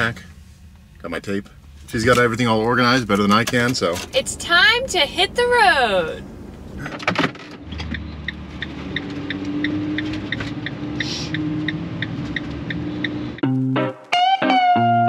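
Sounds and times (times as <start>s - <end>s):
van engine running: 0.0s - 13.4s.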